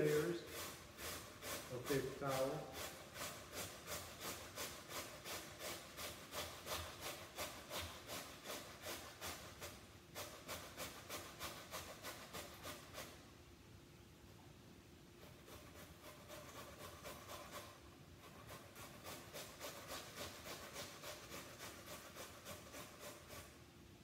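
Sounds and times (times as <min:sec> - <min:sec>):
potato grating on metal grater: 0:00.0 - 0:13.2, 0:15.2 - 0:23.6.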